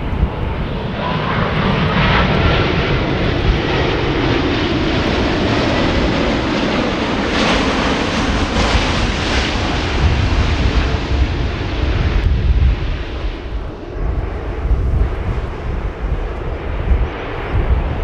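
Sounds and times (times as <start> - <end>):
jet engines rumbling and hissing: 0.0 - 18.0.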